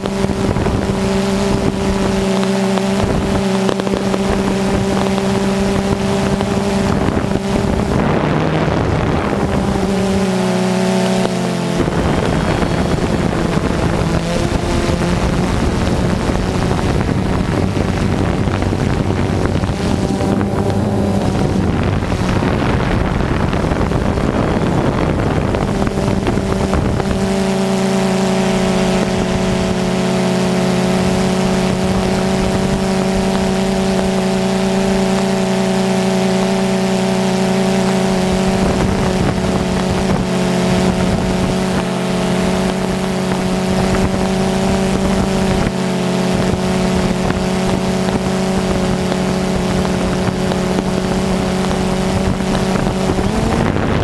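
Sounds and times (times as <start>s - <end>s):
drone motors humming: 0.0s - 54.0s
rush of air from propellers: 0.0s - 54.0s.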